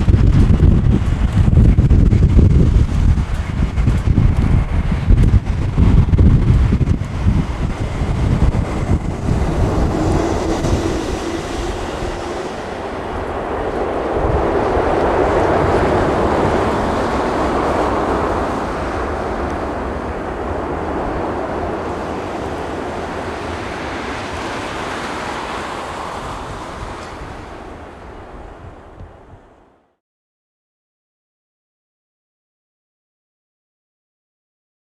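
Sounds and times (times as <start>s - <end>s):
wind buffeting microphone: 0.0s - 29.8s
jet engine roar: 0.0s - 29.9s.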